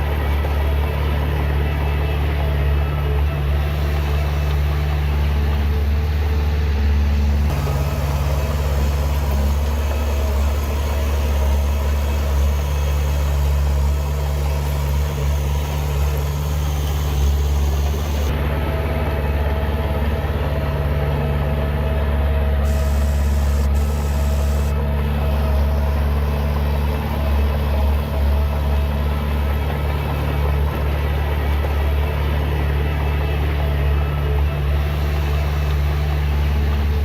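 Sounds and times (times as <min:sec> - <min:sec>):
heavy diesel engine droning: 0:00.0 - 0:37.0.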